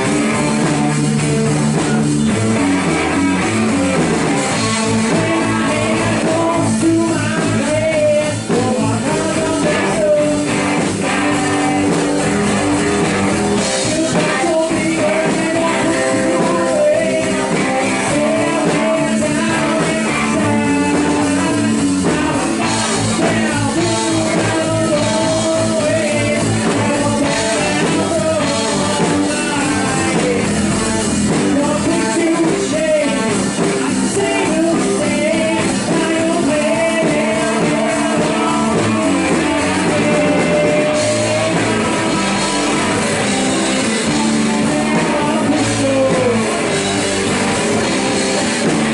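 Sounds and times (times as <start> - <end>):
electric guitar: 0.0 - 48.9
person singing: 0.0 - 48.9
rock band playing live: 0.0 - 48.9.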